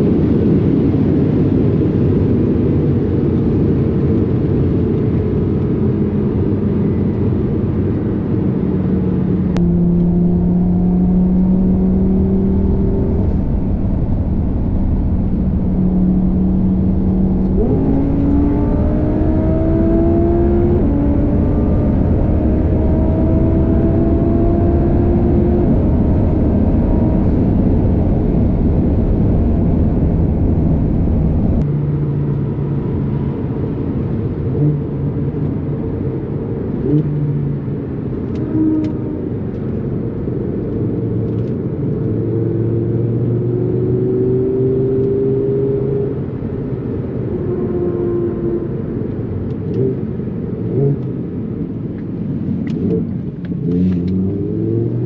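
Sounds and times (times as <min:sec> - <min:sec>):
car engine running hard: 0:00.0 - 0:55.0
road and wind noise: 0:00.0 - 0:55.0.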